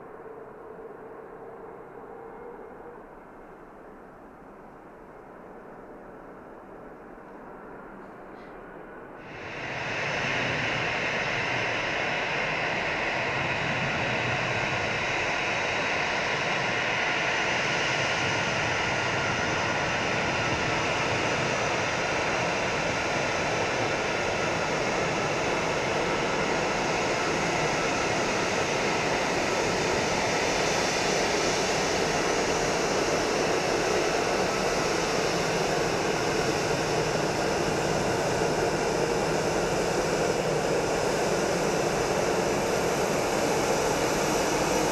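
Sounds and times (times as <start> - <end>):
jet airliner taxiing whine: 0.0 - 44.9.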